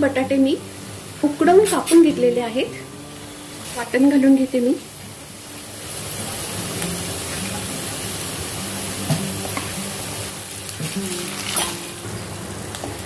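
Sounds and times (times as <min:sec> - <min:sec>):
onion frying in oil: 0:00.0 - 0:13.0.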